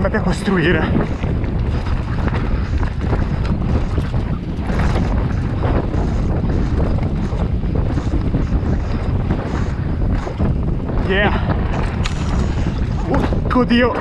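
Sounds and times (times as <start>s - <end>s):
tyres rumbling on dirt: 0.0s - 14.0s
wind buffeting microphone: 0.0s - 14.0s
bike knocks and rattles: 0.9s - 14.0s.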